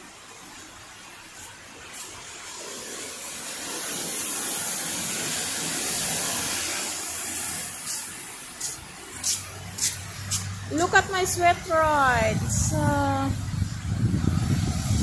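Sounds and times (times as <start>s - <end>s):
car tyres hissing on wet road: 0.2s - 11.0s, 12.5s - 15.0s.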